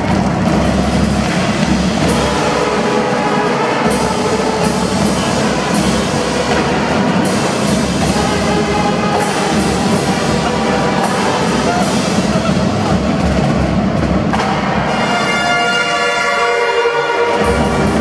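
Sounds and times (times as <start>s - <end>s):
marching drum band playing: 0.0s - 18.0s
cymbal crashes: 0.1s - 18.0s.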